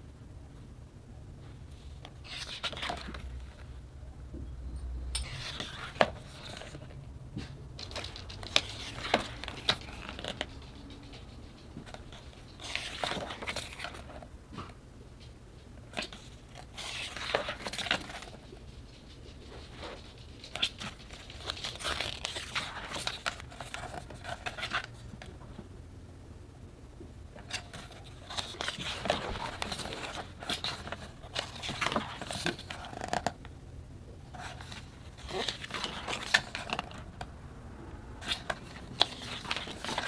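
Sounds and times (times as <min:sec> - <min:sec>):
paper and plastic crinkling: 0:01.8 - 0:03.7, 0:05.2 - 0:15.3, 0:15.9 - 0:25.3, 0:27.4 - 0:33.4, 0:34.3 - 0:37.3, 0:38.2 - 0:40.0.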